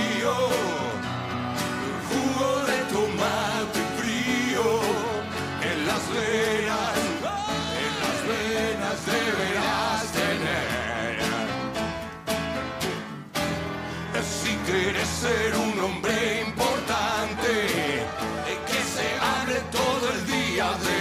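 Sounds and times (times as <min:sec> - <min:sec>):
men singing: 0:00.0 - 0:12.0, 0:14.0 - 0:21.0
strummed acoustic guitar: 0:00.0 - 0:21.0.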